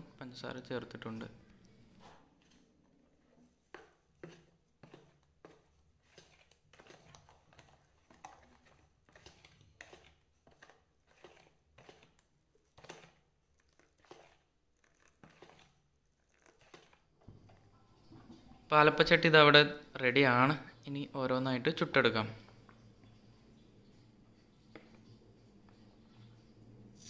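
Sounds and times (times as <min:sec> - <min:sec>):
spoon stirring batter in bowl: 0:00.8 - 0:27.0.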